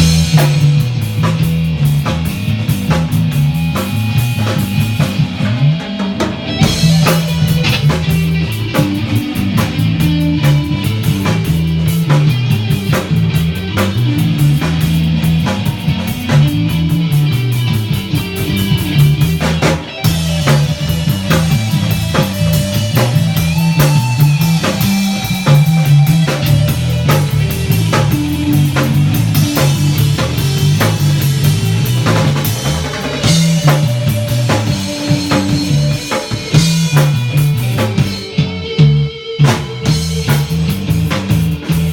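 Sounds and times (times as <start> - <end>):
bass guitar: 0.0 - 41.9
drum kit beat: 0.0 - 41.9
rock guitar: 0.0 - 41.9.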